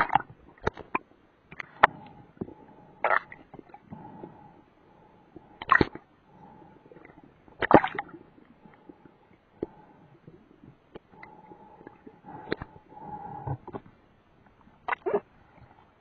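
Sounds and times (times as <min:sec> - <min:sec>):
faint steady hum: 0:00.0 - 0:16.0
underwater bubbling: 0:00.0 - 0:16.0.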